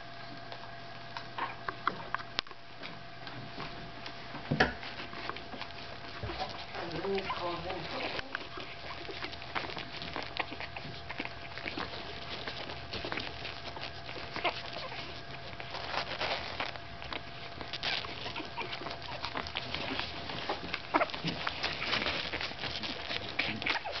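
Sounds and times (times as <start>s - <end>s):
rustling of crawling puppies: 0.0s - 24.0s
puppies squeaking and grunting: 1.0s - 24.0s.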